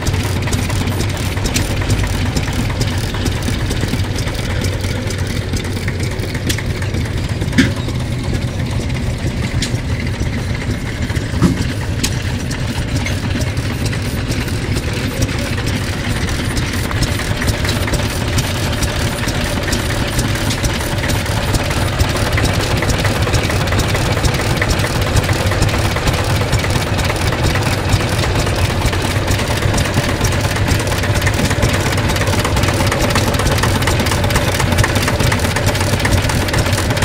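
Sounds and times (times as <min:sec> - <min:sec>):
tractor diesel engine idling: 0:00.0 - 0:37.0.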